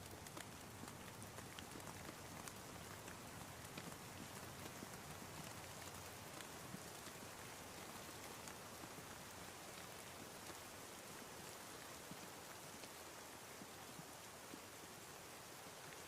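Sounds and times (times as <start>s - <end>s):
faint rain: 0.0s - 16.0s.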